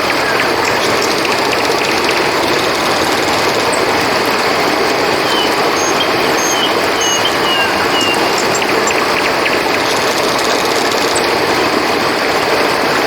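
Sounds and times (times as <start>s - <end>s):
crickets chirping: 0.0s - 11.6s
river water flowing: 0.0s - 13.0s.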